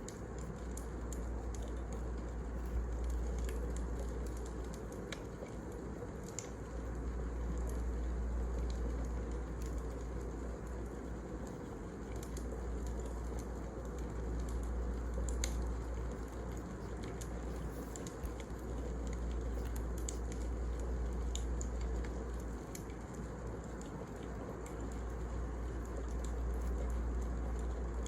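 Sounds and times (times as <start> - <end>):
wood fire burning and crackling: 0.0 - 28.0.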